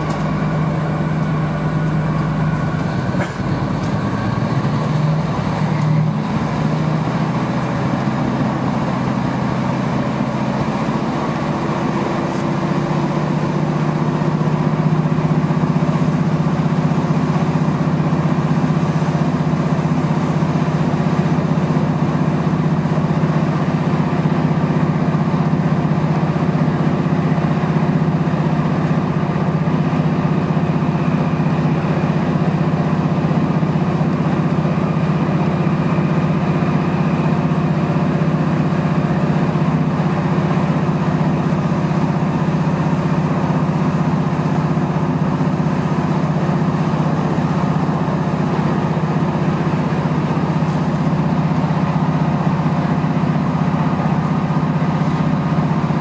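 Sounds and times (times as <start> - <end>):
train engine droning: 0.0 - 56.0.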